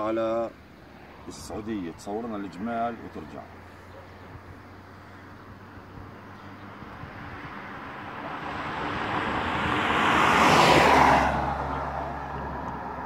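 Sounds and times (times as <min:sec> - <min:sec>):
vehicle passing by: 0:01.0 - 0:13.0.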